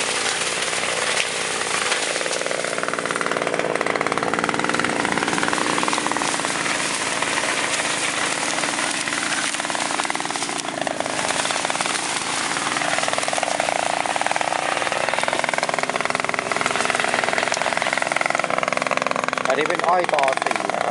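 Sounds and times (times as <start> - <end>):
harvester engine rattling: 0.0 - 20.9.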